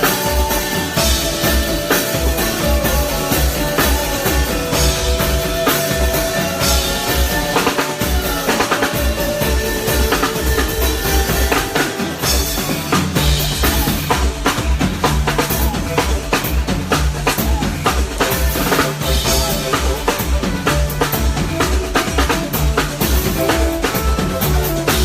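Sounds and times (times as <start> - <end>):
bass line: 0.0 - 25.0
drum kit beat: 0.0 - 25.0.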